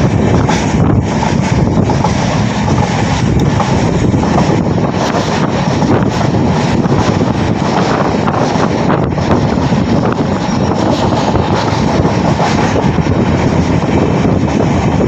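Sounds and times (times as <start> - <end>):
train wheels rumbling on rails: 0.0 - 15.0
wind rushing over microphone: 0.0 - 15.0.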